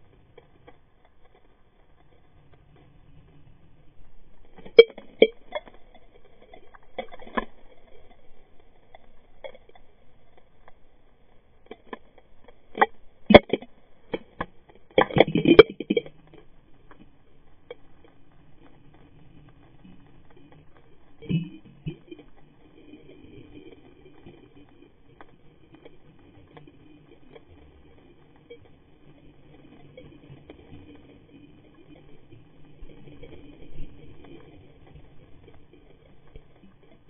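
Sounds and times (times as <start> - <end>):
underwater clicks and knocks: 4.4 - 10.8, 11.5 - 37.0.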